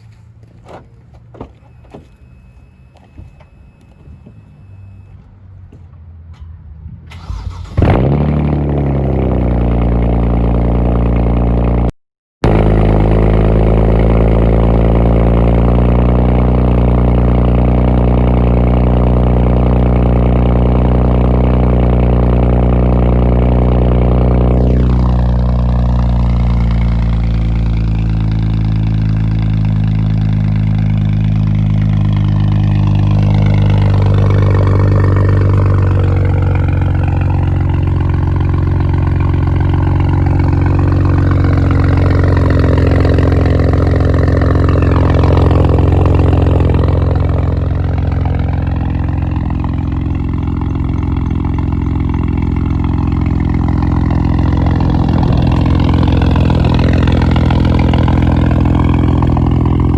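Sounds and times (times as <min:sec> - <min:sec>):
car engine idling: 0:00.0 - 0:05.9, 0:07.1 - 0:59.9.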